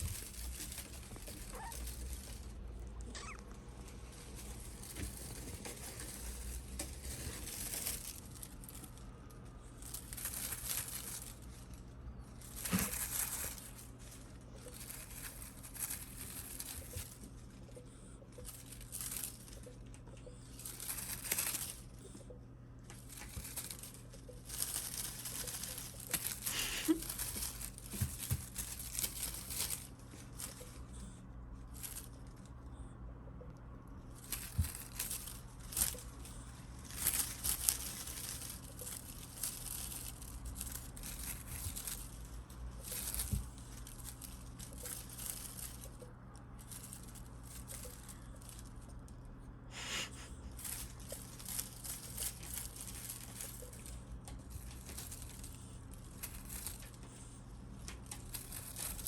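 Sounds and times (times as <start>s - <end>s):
kitten rustling a crinkly toy: 0.0s - 59.0s.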